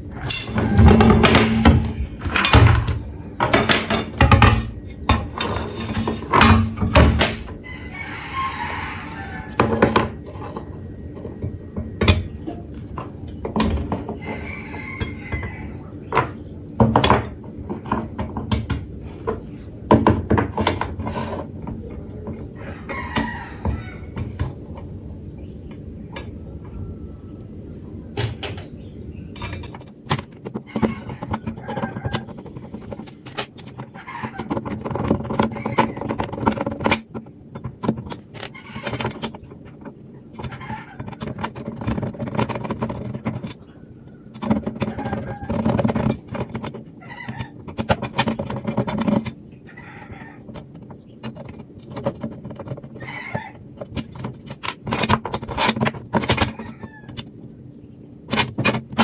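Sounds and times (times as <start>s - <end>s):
tools knocking and tapping: 0.2s - 7.6s, 8.6s - 24.6s, 29.4s - 43.6s, 44.3s - 49.4s, 50.2s - 57.3s.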